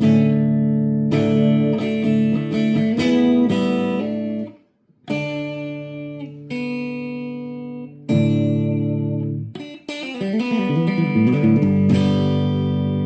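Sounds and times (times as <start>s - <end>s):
guitar chords strummed: 0.0s - 13.0s.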